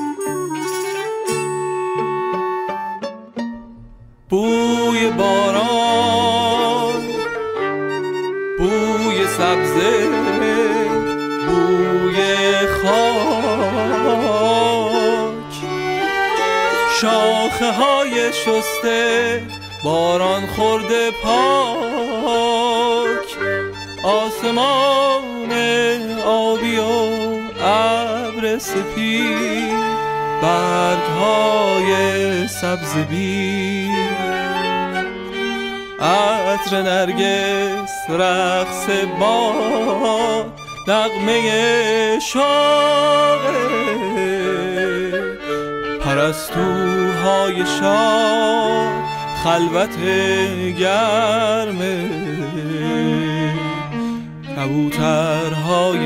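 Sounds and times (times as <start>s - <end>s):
bowed strings playing slow melody: 0.0s - 56.0s.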